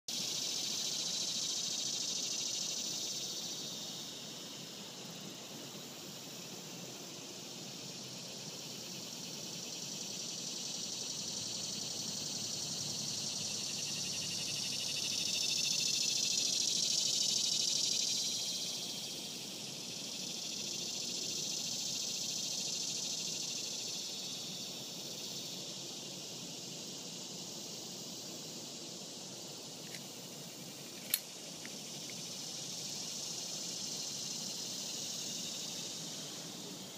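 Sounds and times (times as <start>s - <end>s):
insects buzzing: 0.1s - 36.9s.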